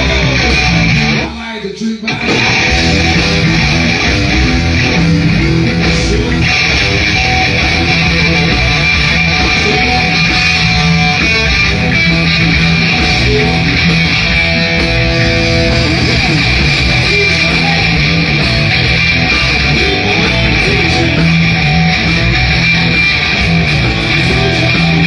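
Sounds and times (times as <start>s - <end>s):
live electric guitar music: 0.0s - 1.4s, 2.1s - 25.0s.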